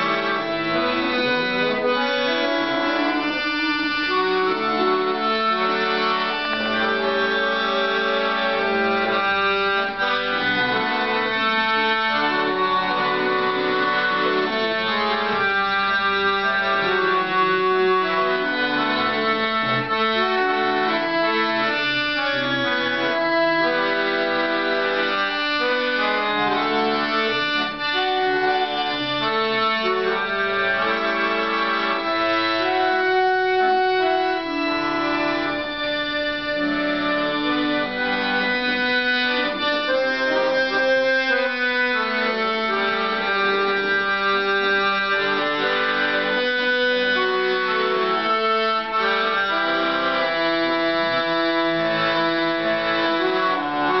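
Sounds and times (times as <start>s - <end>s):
piano accordion playing: 0.0s - 54.0s.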